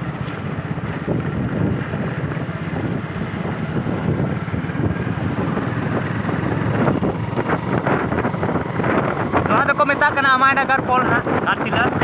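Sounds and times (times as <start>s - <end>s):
vehicle engine running: 0.0s - 12.0s
wind rushing over microphone: 0.0s - 12.0s.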